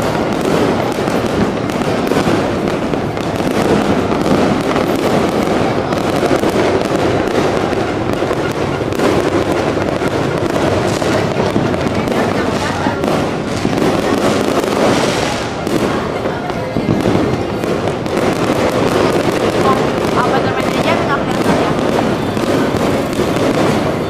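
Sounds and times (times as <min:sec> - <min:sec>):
fireworks popping and banging: 0:00.0 - 0:24.0.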